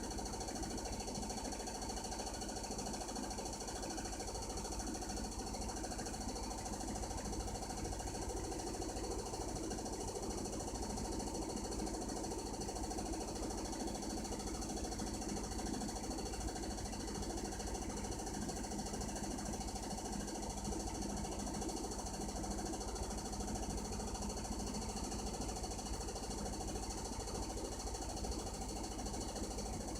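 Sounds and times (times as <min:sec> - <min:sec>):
washing machine spinning: 0:00.0 - 0:29.9.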